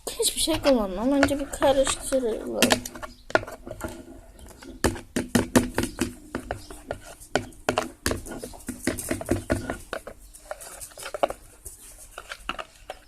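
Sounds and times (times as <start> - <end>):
utensil stirring in a bowl: 0.0 - 13.0.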